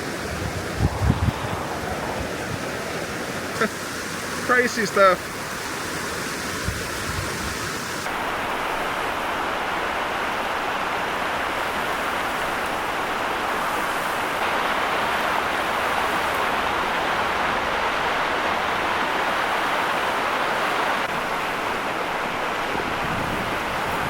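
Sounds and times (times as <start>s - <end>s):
wet snow falling: 0.0s - 23.9s
wind: 0.0s - 24.0s.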